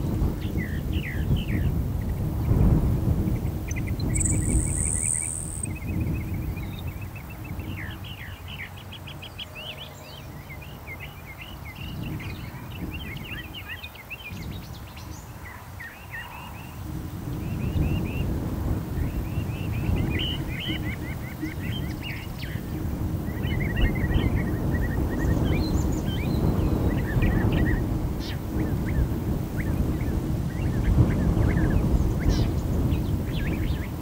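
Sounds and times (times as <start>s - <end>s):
wind on microphone: 0.0s - 9.3s, 11.5s - 34.0s
songbird chirping and trilling: 3.3s - 34.0s.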